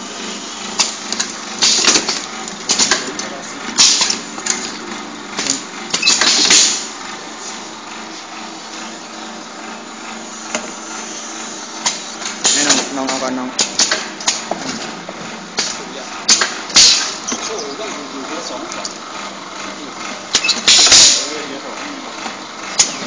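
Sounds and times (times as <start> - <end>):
steady machine hum: 0.0 - 23.0
air cylinders clacking: 0.7 - 6.9, 10.0 - 19.0, 19.6 - 23.0.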